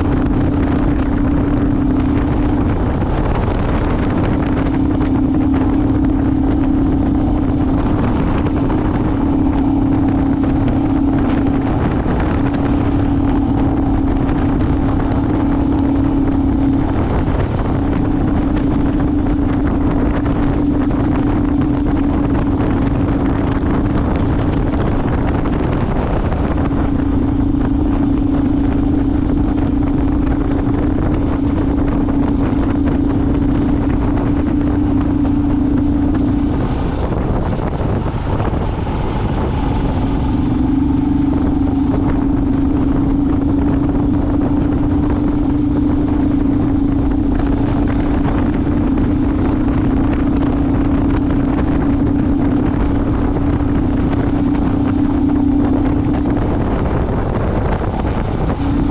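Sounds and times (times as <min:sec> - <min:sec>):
vehicle engine running: 0:00.0 - 0:58.9
wind noise on microphone: 0:00.0 - 0:58.9.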